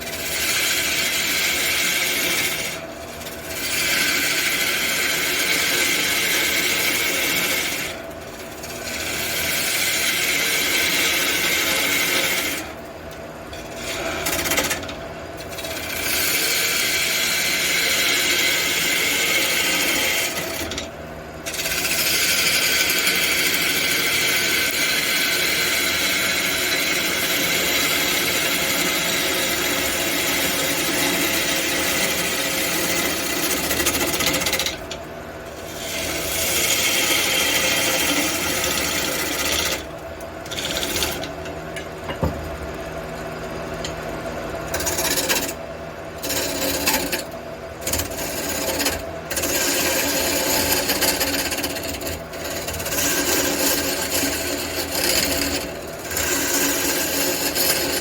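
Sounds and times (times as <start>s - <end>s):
tool scraping wood: 0.0s - 12.8s, 13.5s - 41.5s, 44.7s - 45.6s, 46.2s - 58.0s
lathe motor humming: 0.0s - 45.6s, 46.2s - 58.0s.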